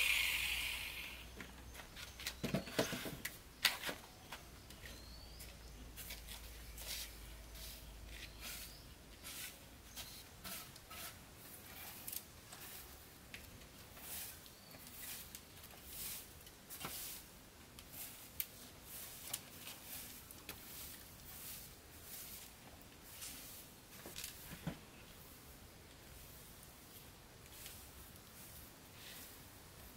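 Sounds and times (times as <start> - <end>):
broom sweeping dirt ground: 0.0 - 2.2, 2.9 - 29.9.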